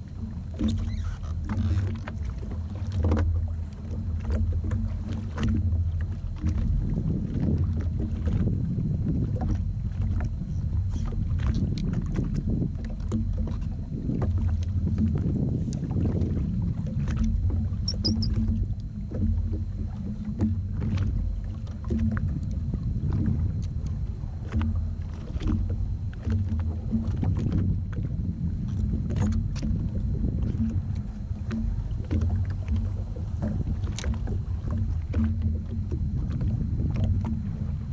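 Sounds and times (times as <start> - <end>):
jet ski low rumble: 0.0 - 37.9.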